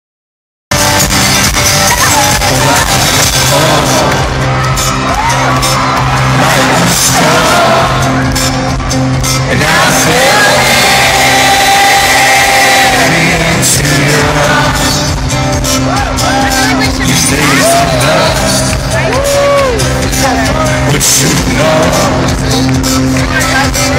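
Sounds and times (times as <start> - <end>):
crowd whooping and singing along: 0.7 - 23.9
held bass notes: 0.7 - 23.9
live rock band playing loudly: 0.7 - 23.9.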